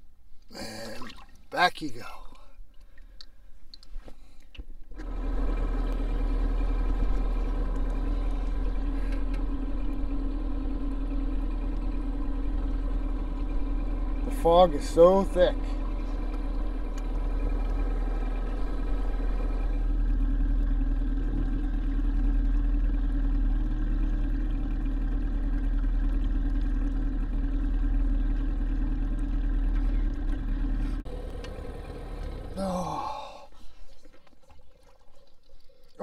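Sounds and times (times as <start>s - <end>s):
outboard motor running: 4.2s - 36.0s.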